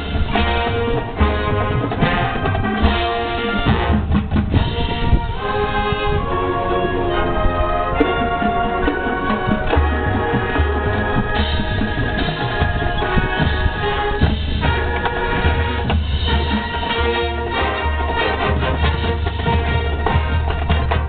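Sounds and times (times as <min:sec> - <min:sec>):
bass drums and percussion: 0:00.0 - 0:05.7, 0:08.0 - 0:21.0
brass and woodwind chords: 0:00.0 - 0:21.0.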